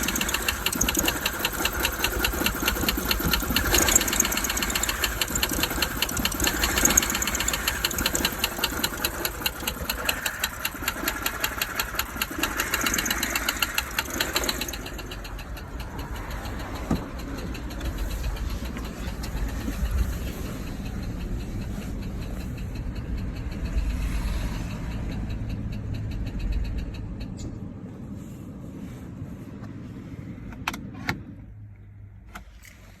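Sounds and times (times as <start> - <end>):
rhythmic engine clatter: 0.0 - 30.2
car engine running: 0.0 - 32.9.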